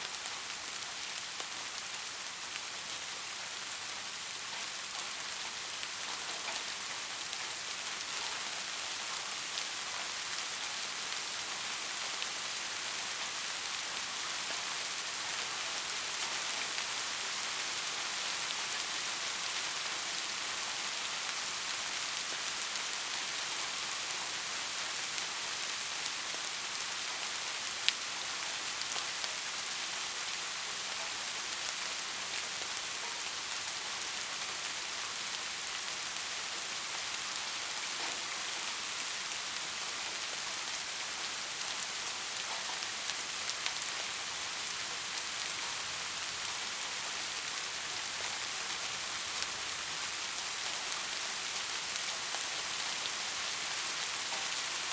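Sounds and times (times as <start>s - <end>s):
white noise hiss: 0.0s - 54.9s.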